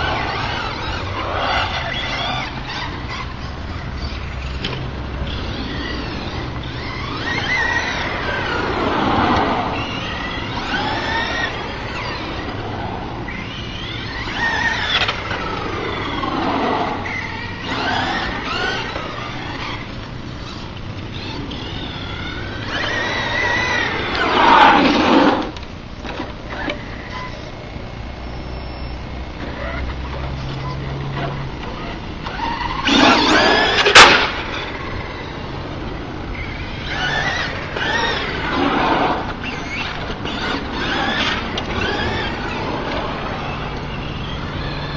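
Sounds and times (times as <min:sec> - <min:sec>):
electric motor whining: 0:00.0 - 0:44.9.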